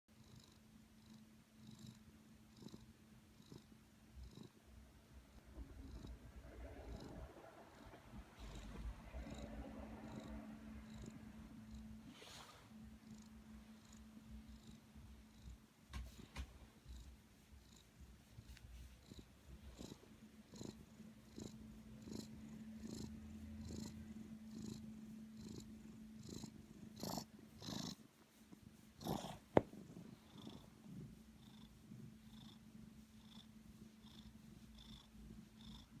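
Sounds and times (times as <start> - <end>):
cat snoring softly: 0.2 - 4.6, 5.3 - 36.0.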